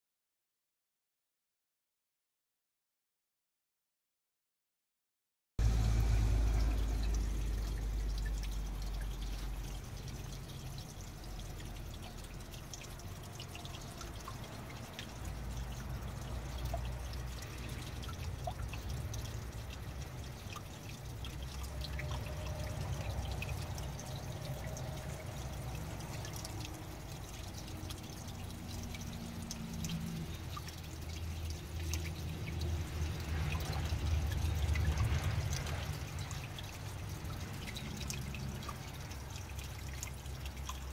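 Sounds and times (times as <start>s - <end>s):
fountain trickling and dripping: 5.6s - 40.9s.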